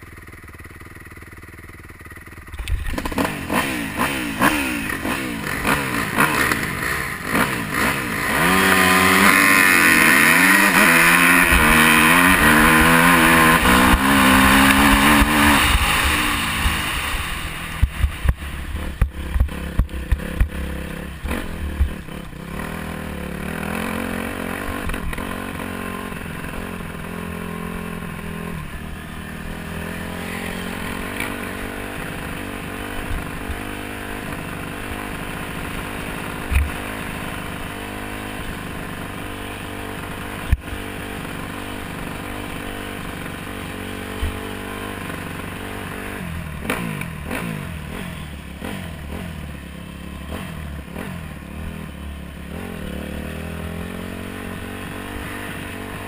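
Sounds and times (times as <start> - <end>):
dirt bike engine revving: 2.4 - 56.0.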